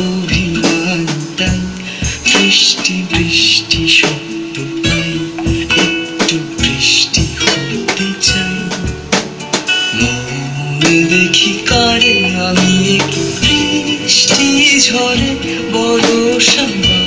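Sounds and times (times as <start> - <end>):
drum kit playing steady beat: 0.0 - 17.0
song with guitar: 0.0 - 17.0.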